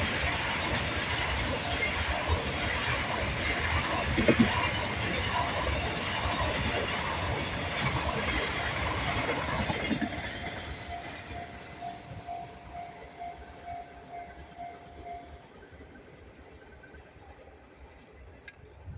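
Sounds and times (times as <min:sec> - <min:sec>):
level crossing warning bell: 0:00.0 - 0:15.8
freight train rumbling past: 0:00.0 - 0:18.9.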